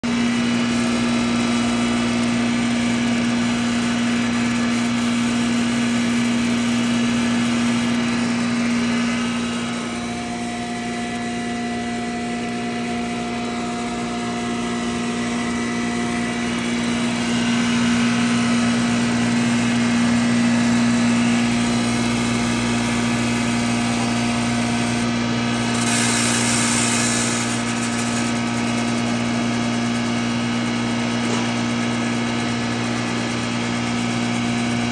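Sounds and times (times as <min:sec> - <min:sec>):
grinding machine humming: 0:00.0 - 0:34.9.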